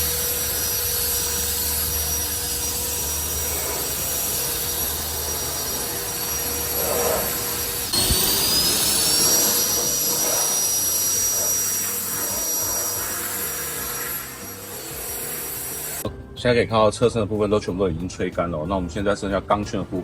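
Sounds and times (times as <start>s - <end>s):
handheld blower whining: 0.0s - 16.1s.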